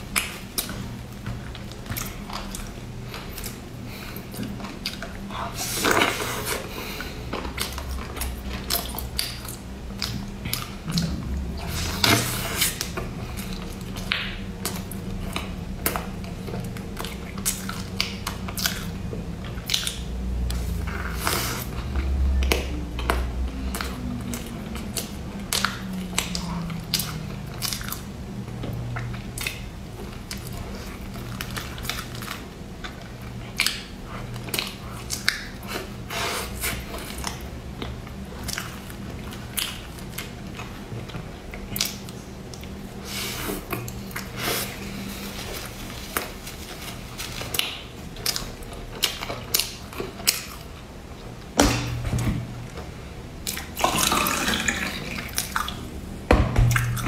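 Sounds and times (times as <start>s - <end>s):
person chewing bread: 0.0s - 56.1s.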